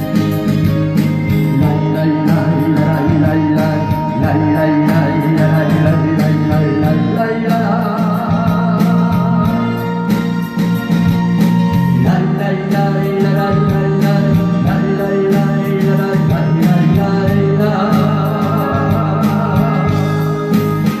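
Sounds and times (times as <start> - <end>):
ballad backing track with beat: 0.0 - 21.0
person singing: 1.2 - 21.0.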